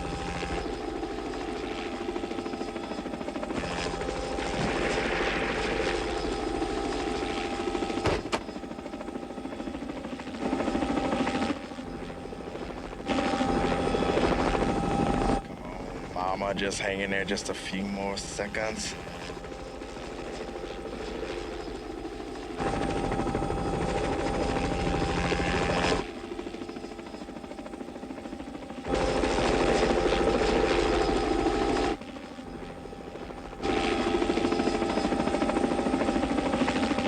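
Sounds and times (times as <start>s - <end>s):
helicopter engine whine: 0.0s - 37.0s
helicopter rotor chop: 0.0s - 37.0s.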